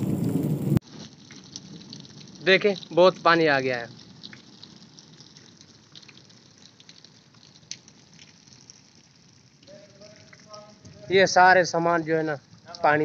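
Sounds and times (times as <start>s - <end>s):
water drips and trickles: 0.0s - 13.0s.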